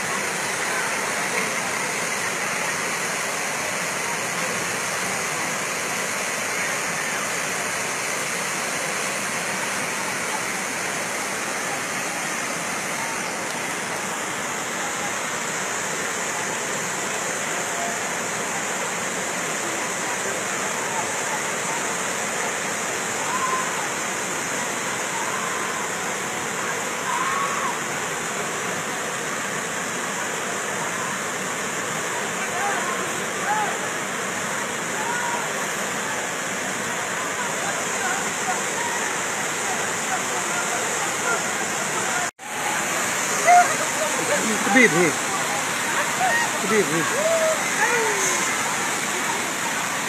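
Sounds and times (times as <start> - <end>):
floodwater rushing: 0.0 - 50.0.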